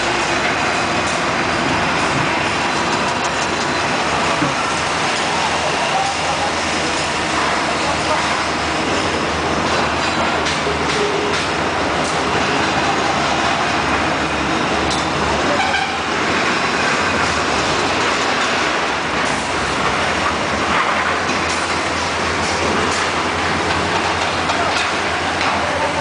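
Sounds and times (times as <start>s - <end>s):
machinery running with rattle: 0.0s - 26.0s.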